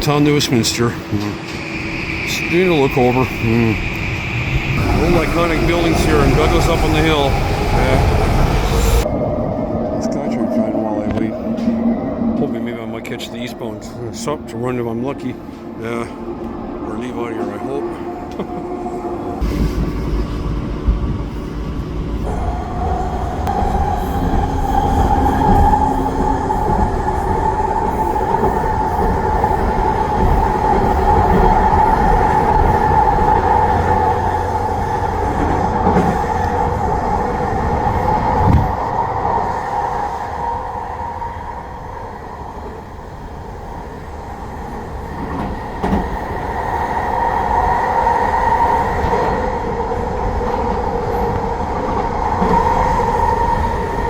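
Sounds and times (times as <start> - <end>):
train electric whine: 0.0 - 54.0
wheel and track rumble: 0.0 - 54.0.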